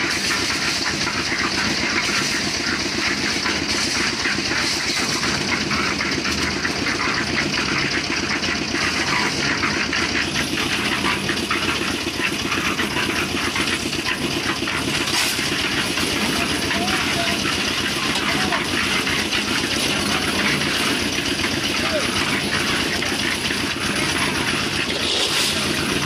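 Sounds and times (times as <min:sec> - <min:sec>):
concrete mixer running: 0:00.0 - 0:26.0.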